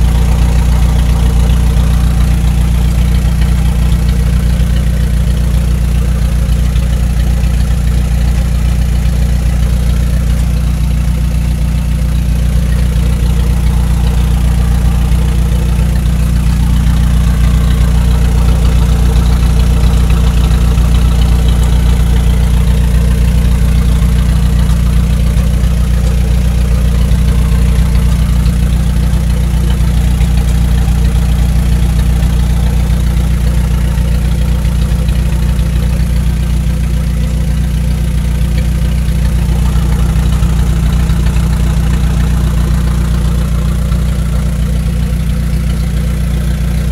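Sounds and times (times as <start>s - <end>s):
engine and drivetrain droning: 0.0s - 46.9s.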